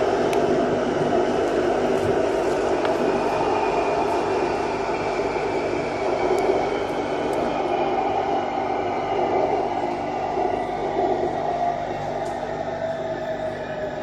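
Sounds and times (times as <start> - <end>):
constant whine: 0.0 - 14.0
electric train running: 0.0 - 14.0.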